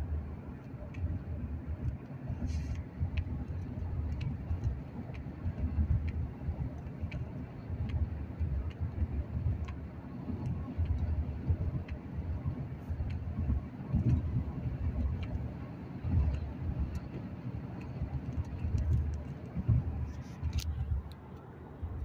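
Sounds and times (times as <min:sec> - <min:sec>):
road rumble inside moving car: 0:00.0 - 0:22.0.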